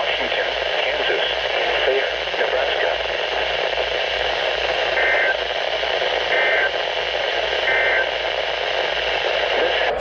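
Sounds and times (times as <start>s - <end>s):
radio static: 0.0s - 10.0s.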